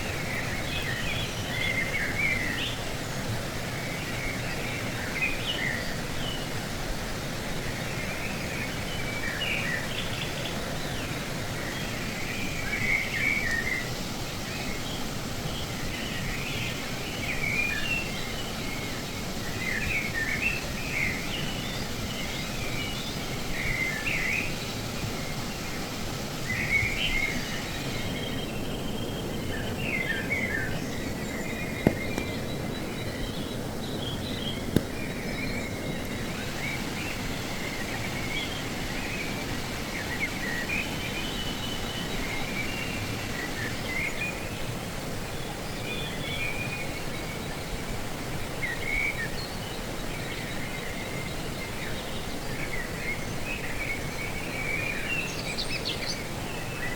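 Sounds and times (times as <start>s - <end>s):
stream flowing: 0.0s - 56.9s
small birds chirping: 7.8s - 56.9s.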